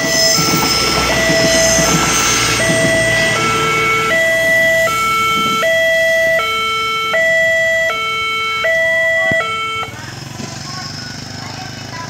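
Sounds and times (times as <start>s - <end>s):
level crossing two-tone alarm: 0.0s - 10.0s.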